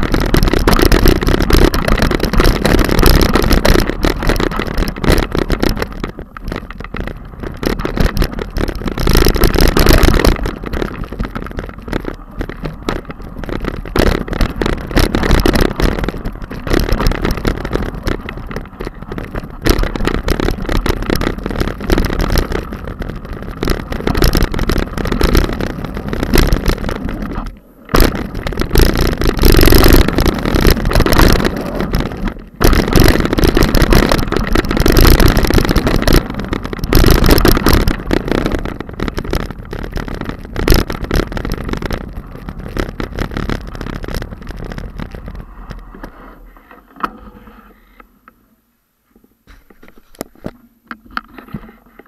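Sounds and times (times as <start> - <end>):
wind buffeting microphone: 0.0 - 46.3
bike rattling over gravel: 0.0 - 47.6.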